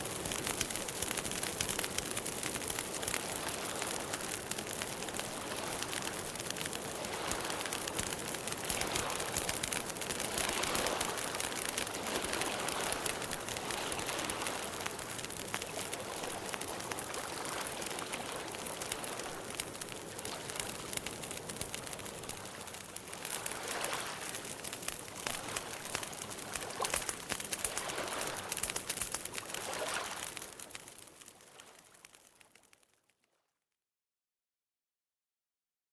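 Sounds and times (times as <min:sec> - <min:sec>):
campfire crackling and popping: 0:00.0 - 0:33.2.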